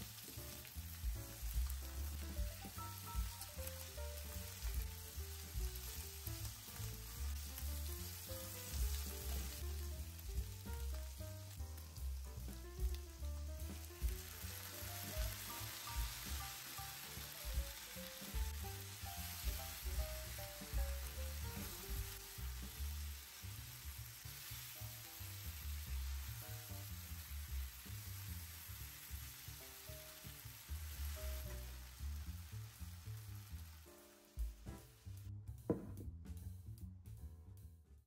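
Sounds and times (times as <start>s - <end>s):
sauce bubbling: 0.0s - 33.9s
food sizzling in a pan: 0.0s - 35.2s
soft background music: 0.0s - 38.0s.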